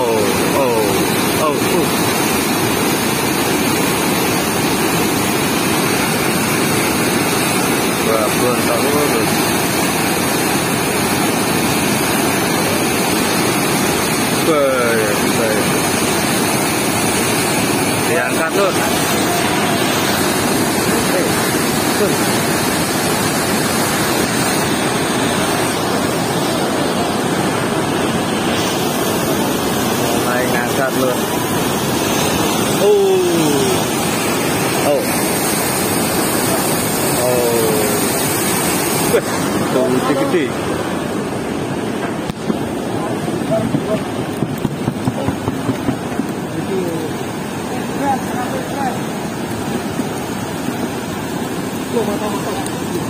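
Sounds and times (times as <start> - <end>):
water rushing through weir: 0.0 - 53.0.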